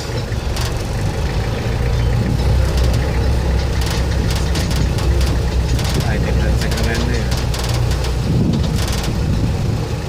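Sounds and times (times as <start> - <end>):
jeep engine humming: 0.0 - 10.0.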